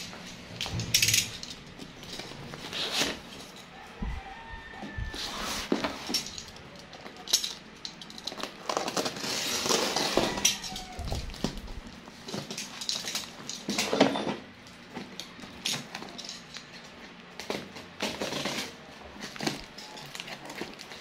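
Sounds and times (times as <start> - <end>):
tape rustling: 0.0 - 21.0.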